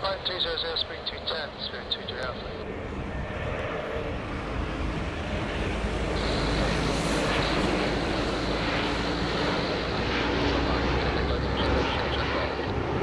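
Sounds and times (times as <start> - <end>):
high engine whine: 0.0 - 13.0
jet airliner engine rush: 0.0 - 13.0.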